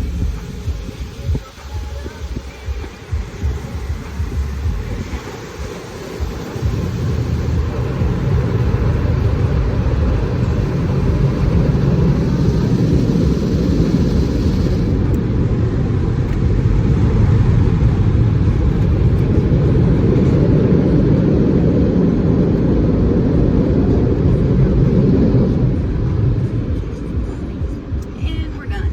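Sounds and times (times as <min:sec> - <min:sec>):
car wash machinery rumbling: 0:00.0 - 0:28.9.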